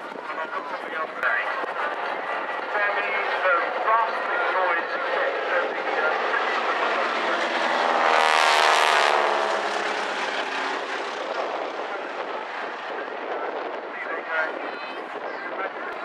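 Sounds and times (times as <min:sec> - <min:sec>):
biplane engines droning overhead: 0:00.0 - 0:16.0.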